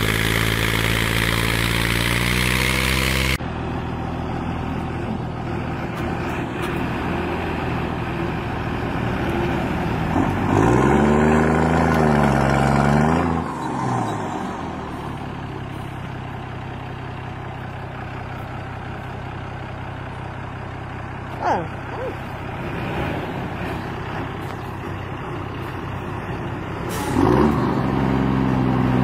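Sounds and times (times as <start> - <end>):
tractor diesel engine: 0.0 - 29.0
truck diesel engines running: 0.0 - 29.0
truck engine revving: 0.0 - 29.0.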